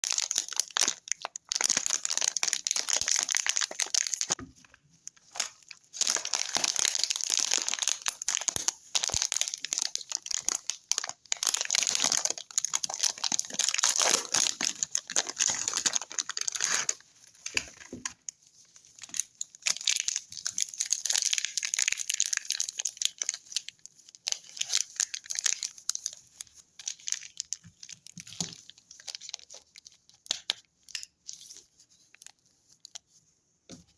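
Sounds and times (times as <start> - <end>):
wrapper crinkling and tearing: 0.0 - 4.4, 5.1 - 18.2, 19.0 - 33.0.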